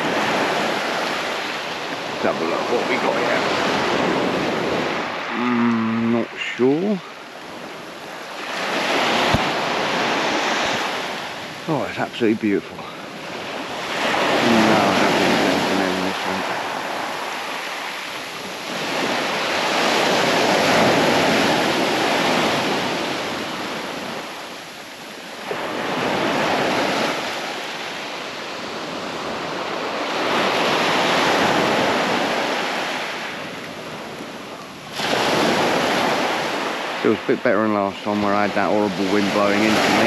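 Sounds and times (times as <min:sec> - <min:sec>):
surf breaking on beach: 0:00.0 - 0:40.0
wind on microphone: 0:00.0 - 0:40.0.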